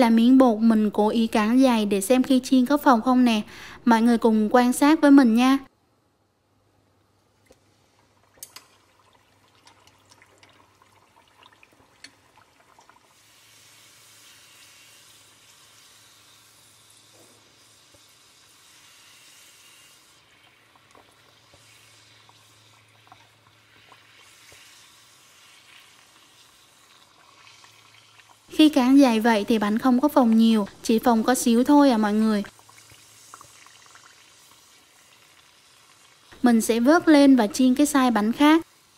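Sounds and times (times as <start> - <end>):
dough deep-frying in oil: 7.1 - 38.9.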